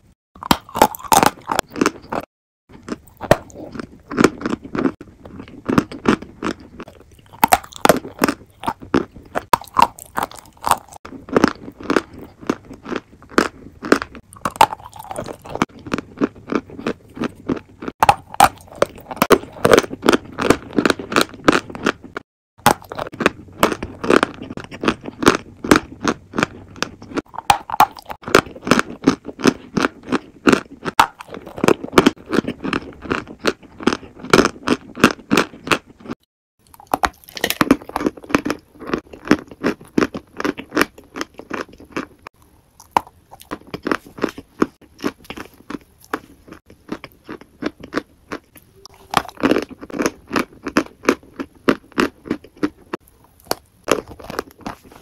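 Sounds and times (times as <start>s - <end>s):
crunching and chewing: 0.4s - 55.0s.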